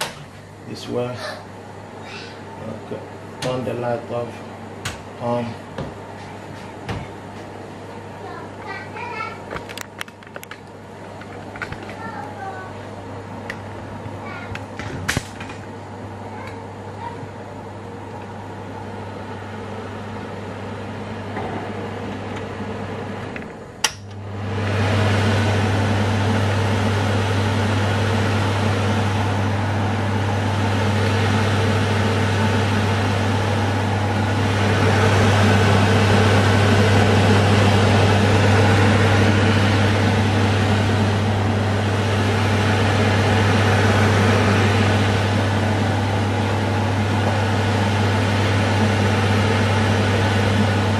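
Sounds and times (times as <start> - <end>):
extractor fan humming: 0.0 - 50.9.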